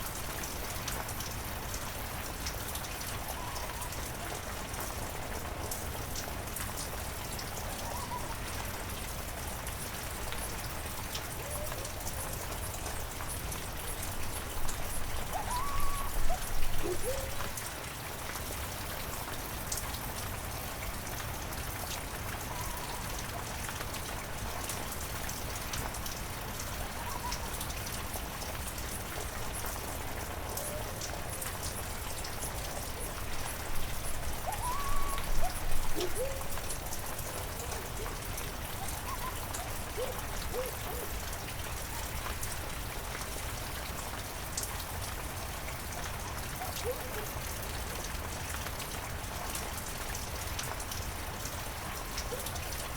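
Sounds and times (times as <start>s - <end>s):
heavy rain in forest: 0.0s - 52.9s.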